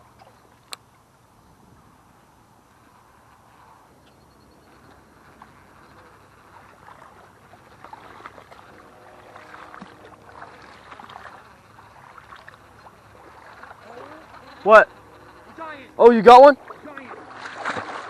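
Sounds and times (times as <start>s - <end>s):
water splashing and lapping: 0.0s - 1.1s, 2.7s - 18.0s.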